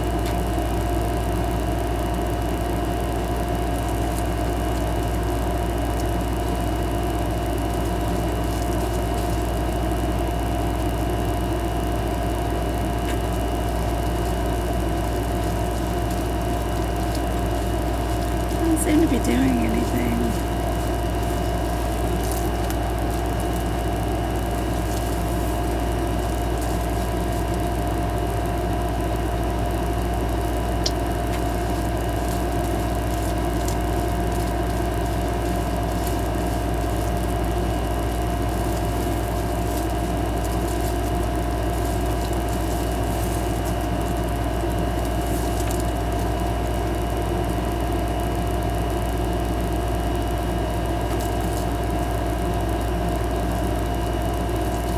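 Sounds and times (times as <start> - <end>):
machine humming: 0.0 - 54.9.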